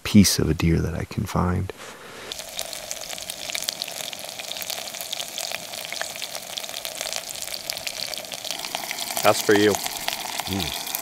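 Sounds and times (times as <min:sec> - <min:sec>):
meat sizzling in fat: 0:01.9 - 0:11.0.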